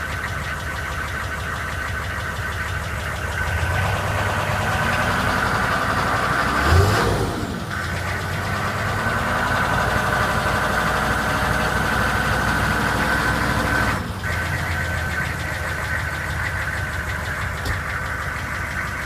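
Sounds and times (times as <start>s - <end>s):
diesel engine idling with knock: 0.0s - 19.0s.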